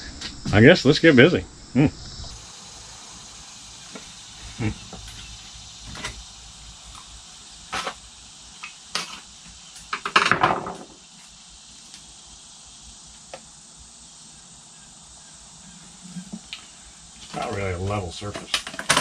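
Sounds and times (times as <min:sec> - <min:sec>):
faint high hiss: 0:00.0 - 0:19.0.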